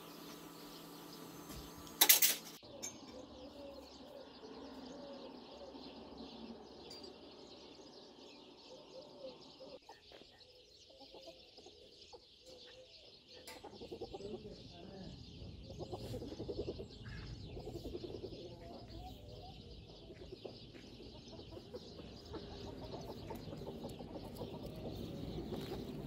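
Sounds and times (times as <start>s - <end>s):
high chirping bird chorus: 0.0s - 26.0s
low arching bird calls: 2.6s - 26.0s.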